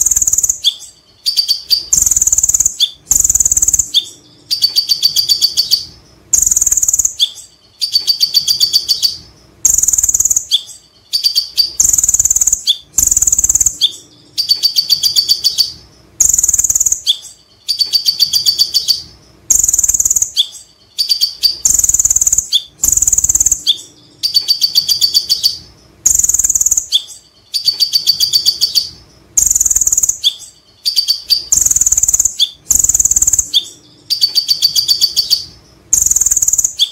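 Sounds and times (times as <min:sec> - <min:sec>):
bird singing trilled chatters: 0:00.0 - 0:36.9.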